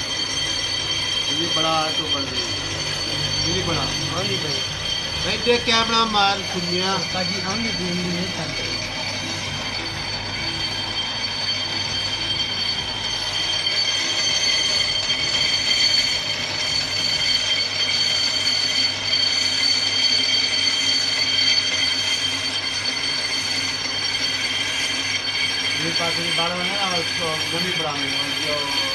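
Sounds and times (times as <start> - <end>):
high-pitched metallic squeal: 0.0 - 28.9
machine running hum: 0.0 - 28.9.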